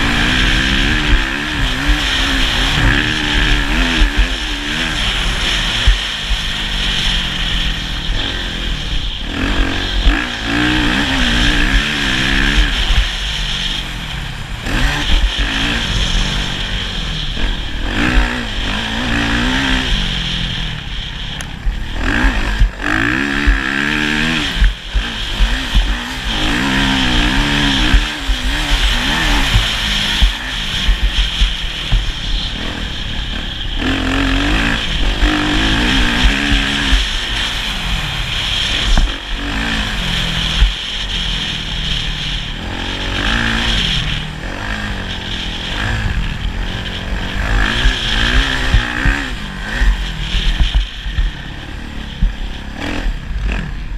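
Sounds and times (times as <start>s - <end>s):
low rumble with sharp jolts: 0.0s - 53.9s
motocross engine revving: 0.0s - 53.9s.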